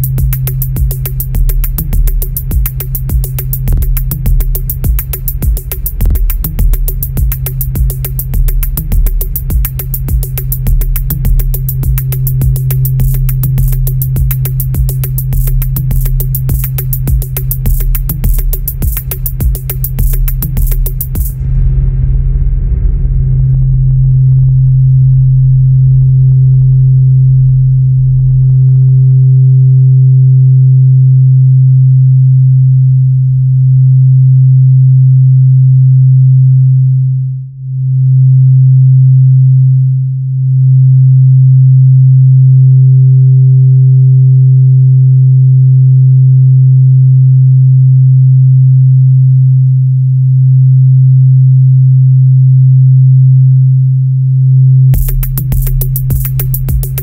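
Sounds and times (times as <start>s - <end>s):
steady low drone tone: 0.0s - 57.0s.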